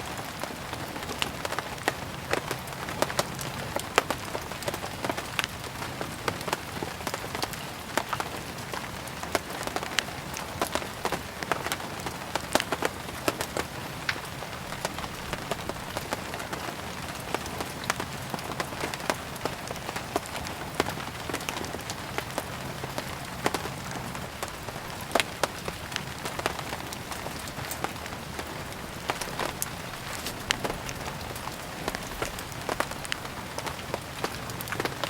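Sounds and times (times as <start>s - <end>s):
steady rain: 0.0s - 35.0s
wood fire crackling and popping: 0.1s - 35.0s.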